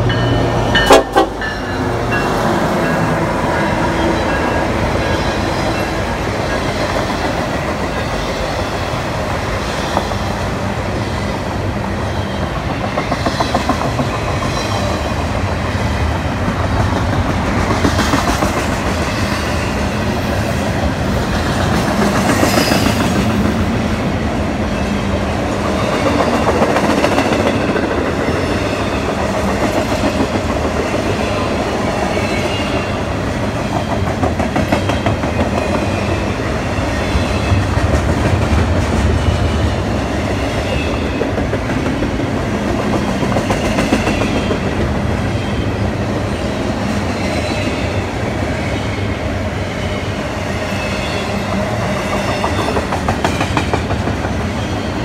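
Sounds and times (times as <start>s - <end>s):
freight train rumbling: 0.0s - 55.0s.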